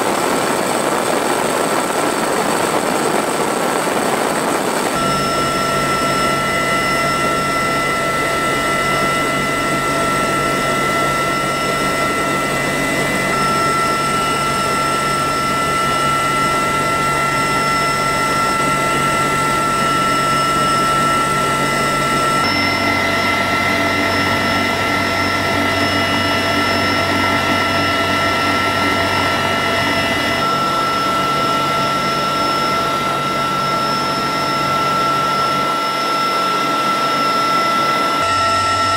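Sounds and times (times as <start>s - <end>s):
helicopter interior drone: 0.0s - 38.9s
high engine whining tones: 0.0s - 38.9s.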